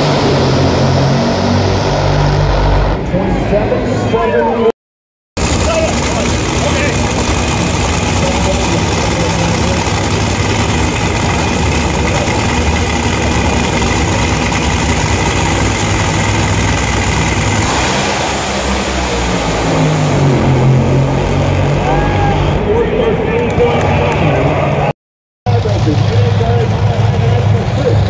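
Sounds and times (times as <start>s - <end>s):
race car engines rumbling: 0.0s - 4.7s, 5.4s - 24.9s, 25.5s - 28.0s.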